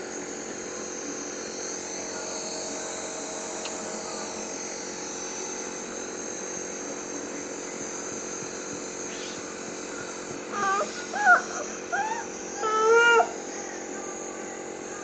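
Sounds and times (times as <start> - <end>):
compressor motor hum and whine: 0.0 - 15.0.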